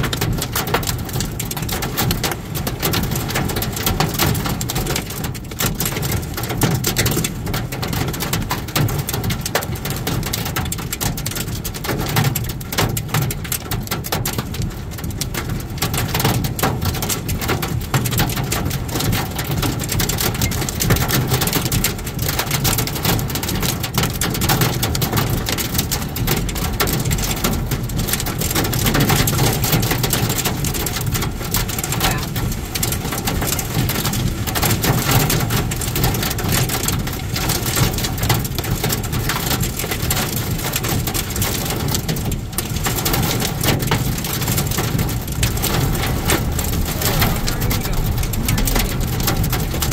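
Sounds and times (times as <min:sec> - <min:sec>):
heavy rain on car windshield: 0:00.0 - 0:49.9
low road noise: 0:00.0 - 0:49.9.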